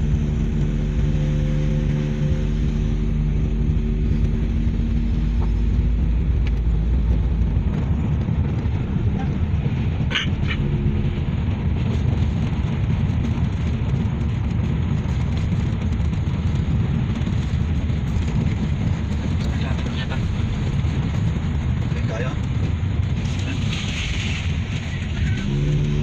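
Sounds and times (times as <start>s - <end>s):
car tyres and engine rumble: 0.0s - 26.0s.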